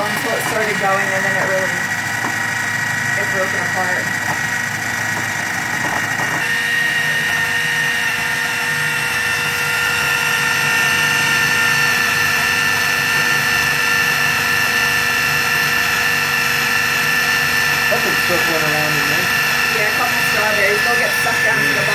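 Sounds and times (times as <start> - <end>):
food processor motor whining: 0.0 - 21.9.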